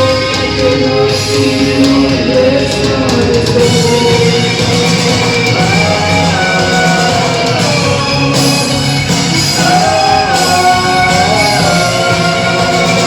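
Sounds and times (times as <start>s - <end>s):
drums: 0.0s - 13.0s
loud guitar: 0.0s - 13.0s
rock band playing live: 0.0s - 13.0s.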